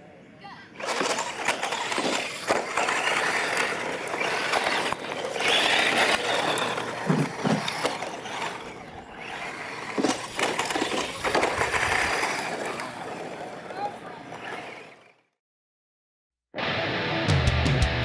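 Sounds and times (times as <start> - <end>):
toy trucks racing on gravel: 0.7 - 15.3.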